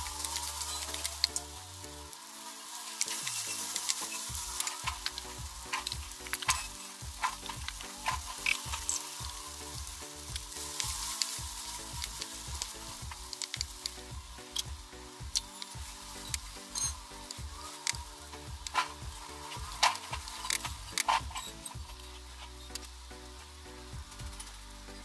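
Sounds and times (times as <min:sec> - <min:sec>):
okra sizzling in oil: 0:00.0 - 0:25.0.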